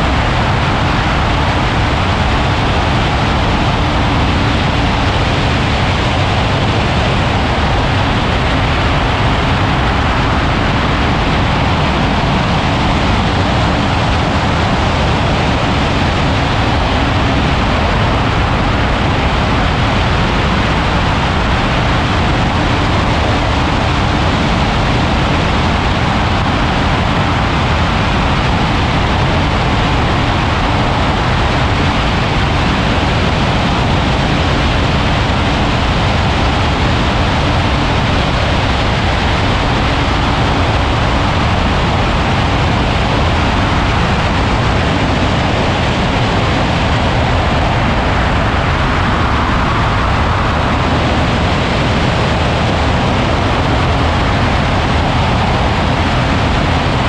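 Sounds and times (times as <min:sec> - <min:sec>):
ultralight aircraft engine and wind: 0:00.0 - 0:57.0.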